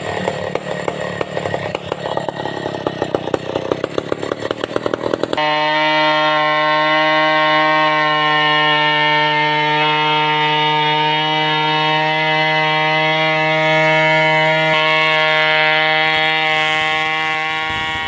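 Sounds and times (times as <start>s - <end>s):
chainsaw running at high speed: 0.0s - 18.0s.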